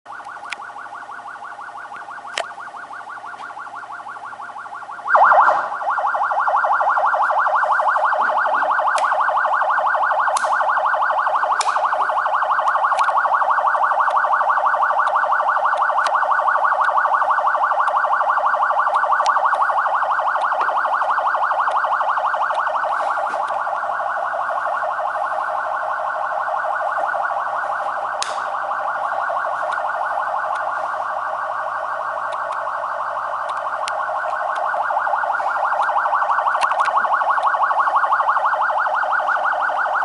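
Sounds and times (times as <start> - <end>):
police siren warbling: 0.1 - 40.0.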